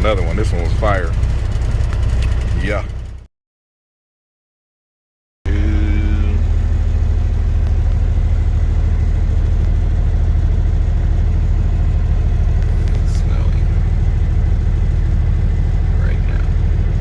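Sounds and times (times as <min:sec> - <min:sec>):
truck diesel engine idling: 0:00.0 - 0:03.3, 0:05.5 - 0:17.0.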